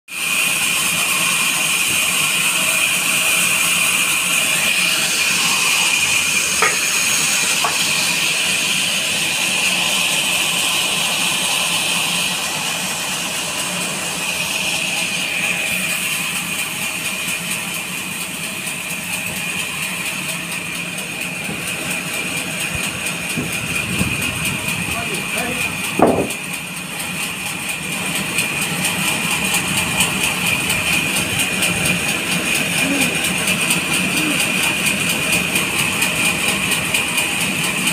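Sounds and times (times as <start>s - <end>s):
band saw cutting log: 0.1s - 37.9s.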